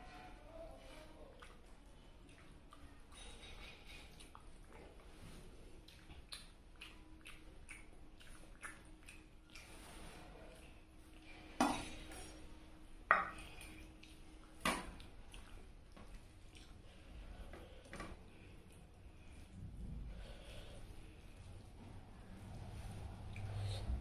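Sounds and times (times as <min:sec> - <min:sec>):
chewing and food handling: 0:00.0 - 0:24.0.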